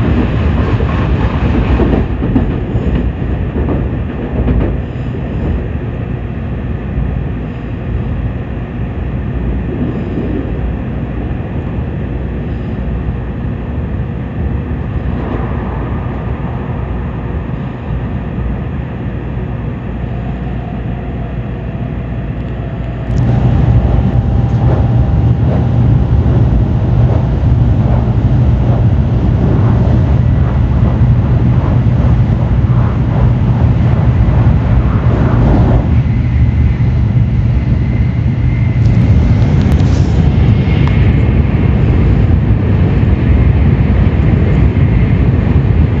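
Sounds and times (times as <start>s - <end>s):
train rumbling at speed: 0.0s - 46.0s.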